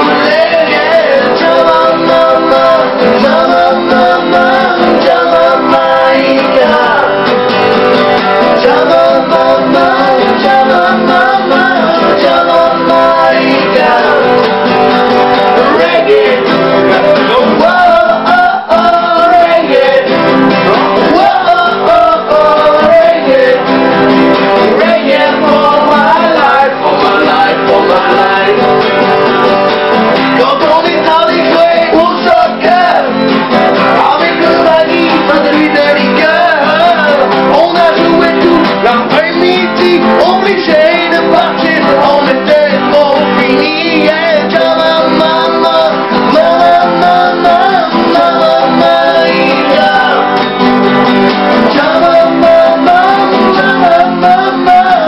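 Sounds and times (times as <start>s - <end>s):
acoustic guitars strummed: 0.0s - 55.0s
man singing: 0.0s - 55.0s.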